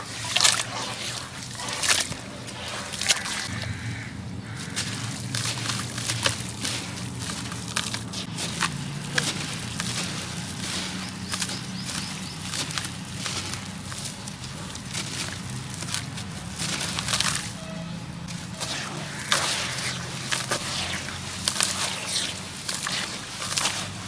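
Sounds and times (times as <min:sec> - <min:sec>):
gritty chunks crumbling by hand: 0:00.0 - 0:03.8, 0:04.4 - 0:24.0.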